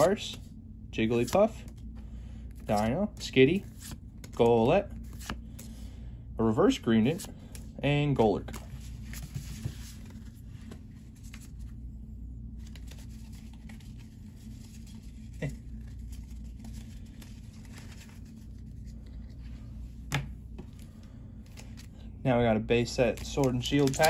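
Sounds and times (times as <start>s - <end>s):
cards rustling and scraping: 0.0s - 5.9s, 7.0s - 11.8s, 12.5s - 22.2s, 22.8s - 24.0s
low room hum: 0.0s - 24.0s.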